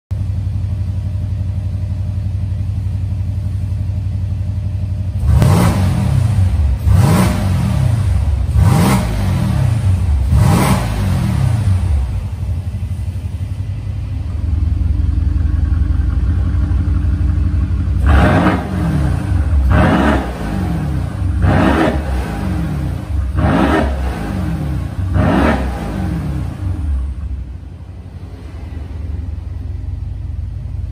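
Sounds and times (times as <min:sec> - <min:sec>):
car engine idling: 0:00.1 - 0:30.9
car engine revving: 0:05.1 - 0:30.9.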